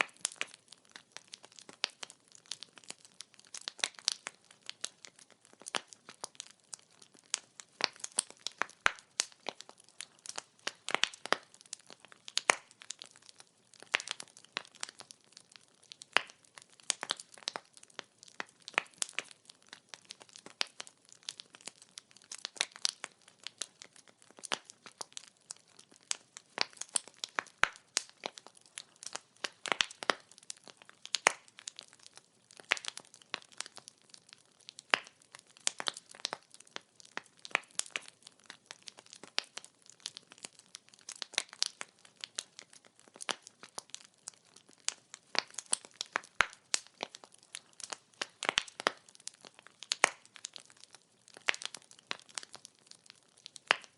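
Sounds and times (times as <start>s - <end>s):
sharp fire crack: 0.0s - 15.2s, 20.0s - 53.9s
firewood crackling and popping: 0.0s - 53.9s.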